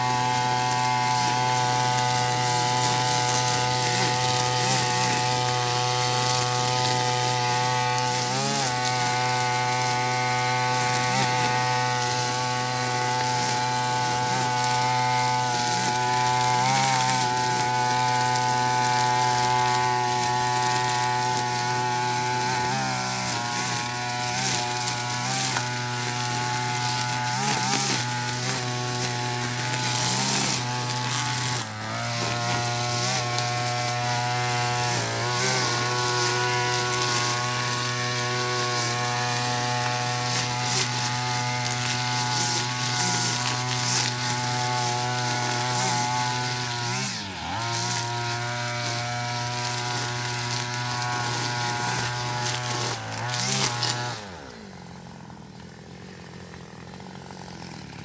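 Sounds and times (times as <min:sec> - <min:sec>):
brush cutter engine running: 0:00.0 - 0:58.0.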